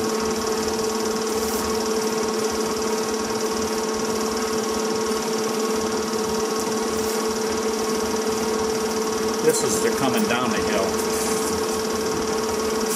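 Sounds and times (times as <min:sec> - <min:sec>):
film projector whirring: 0:00.0 - 0:12.9.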